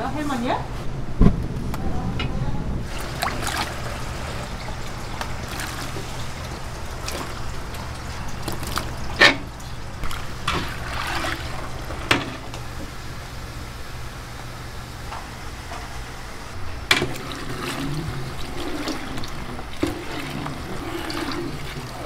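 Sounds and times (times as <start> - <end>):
gas burner humming: 1.0 - 22.0.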